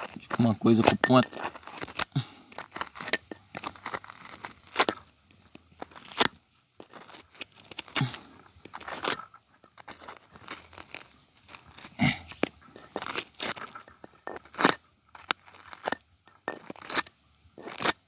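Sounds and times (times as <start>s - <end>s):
hand tool scraping gravel: 0.0s - 18.0s
tool striking rock: 0.0s - 18.0s.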